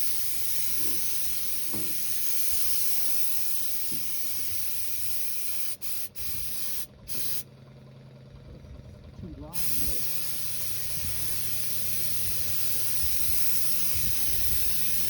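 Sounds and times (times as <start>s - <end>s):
paint spray gun hissing: 0.0s - 7.4s, 9.6s - 15.0s
low steady hum: 0.0s - 15.0s.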